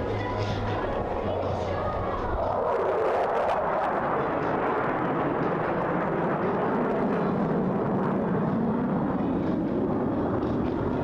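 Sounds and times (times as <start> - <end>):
jet roar overhead: 0.0 - 11.0.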